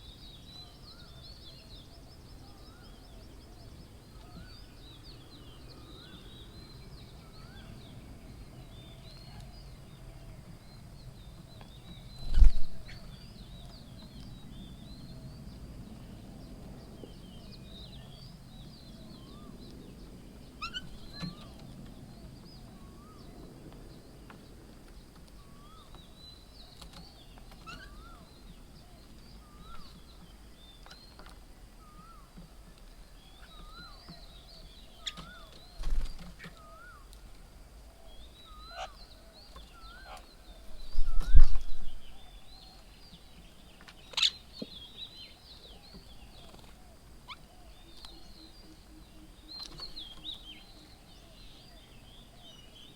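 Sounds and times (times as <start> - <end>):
birds chirping: 0.0 - 52.9.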